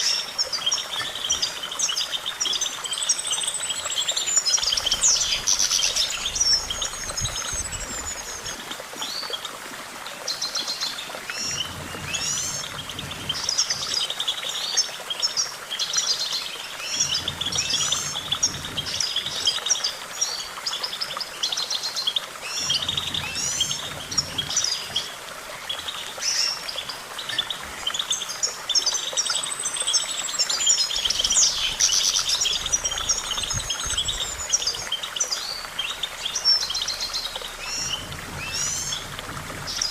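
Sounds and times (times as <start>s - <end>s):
goldfinch song trills and chirps: 0.0s - 9.5s, 10.3s - 39.9s.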